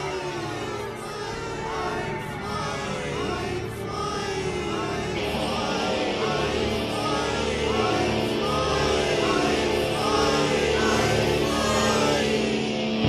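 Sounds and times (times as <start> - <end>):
background music with singing: 0.0 - 13.0.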